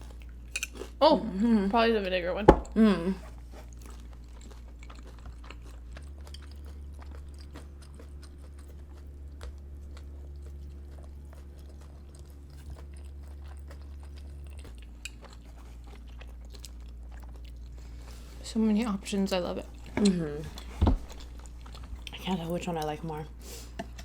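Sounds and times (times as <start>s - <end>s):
steady low hum: 0.0s - 24.0s
close-miked chewing food: 3.2s - 24.0s.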